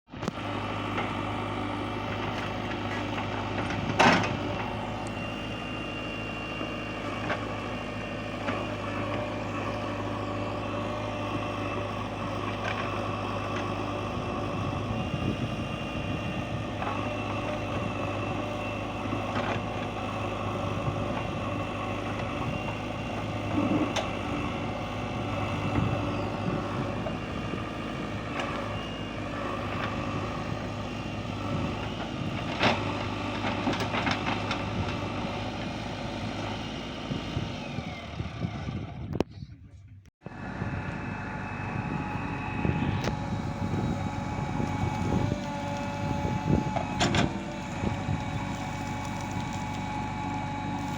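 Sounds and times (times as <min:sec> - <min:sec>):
diesel engine running: 0:00.1 - 0:50.9.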